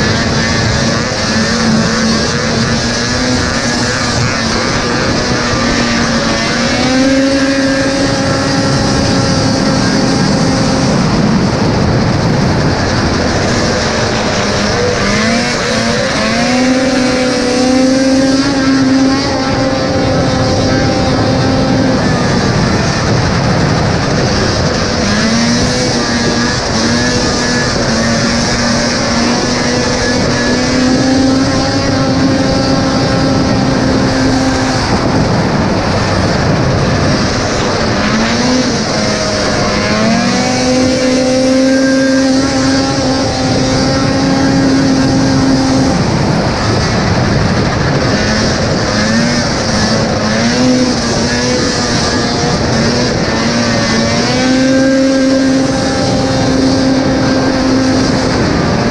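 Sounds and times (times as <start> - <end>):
two-stroke engine at full throttle: 0.0 - 58.9
wind and skis hissing on ice: 0.0 - 58.9.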